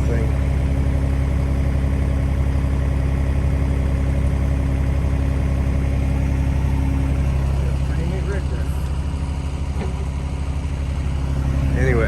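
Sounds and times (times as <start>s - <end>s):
heavy machine engine idling: 0.0s - 12.0s.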